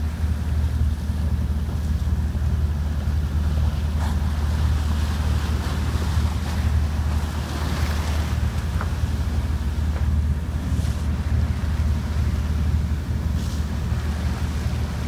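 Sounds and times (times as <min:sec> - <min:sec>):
sea water churning along boat: 0:00.0 - 0:15.0.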